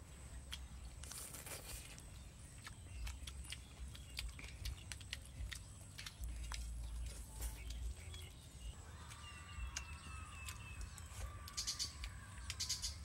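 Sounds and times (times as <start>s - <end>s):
chewing: 0.2s - 13.0s.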